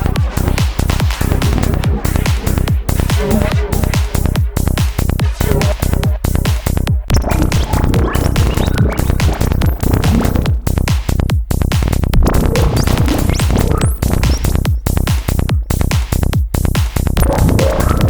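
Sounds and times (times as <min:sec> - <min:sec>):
psytrance music with pulsing beat: 0:00.0 - 0:18.0.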